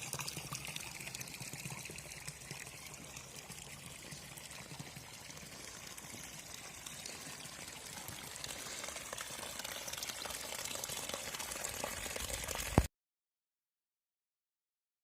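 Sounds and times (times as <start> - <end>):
running water splashing: 0.0 - 12.9.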